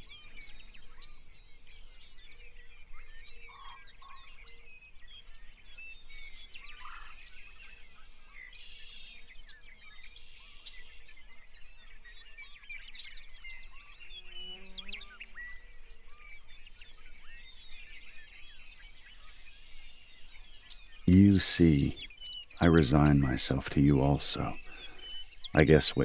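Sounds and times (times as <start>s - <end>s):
birds chirping and trilling: 0.0s - 26.0s
low whistled bird notes: 0.0s - 26.0s.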